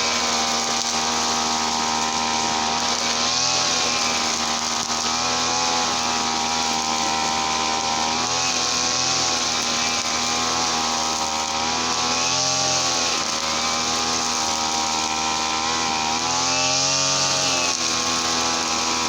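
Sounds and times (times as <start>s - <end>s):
brush cutter engine running: 0.0s - 19.0s.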